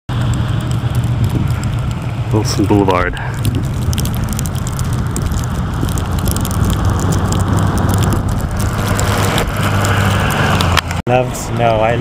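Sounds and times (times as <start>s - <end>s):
street traffic rumble: 0.1s - 12.0s
vehicle engine running nearby: 0.1s - 12.0s.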